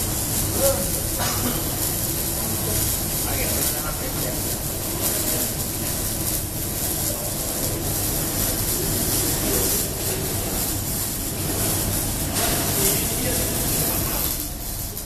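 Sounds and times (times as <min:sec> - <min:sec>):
welding arc crackling hiss: 0:00.0 - 0:15.0.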